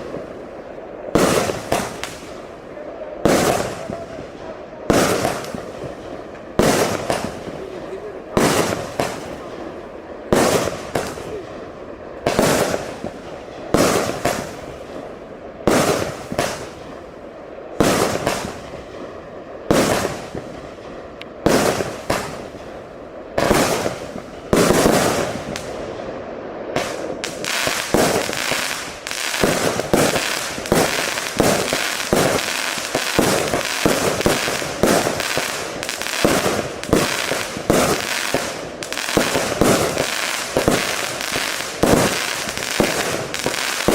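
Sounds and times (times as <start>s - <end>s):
firework shots banging and crackling: 0.0s - 43.9s.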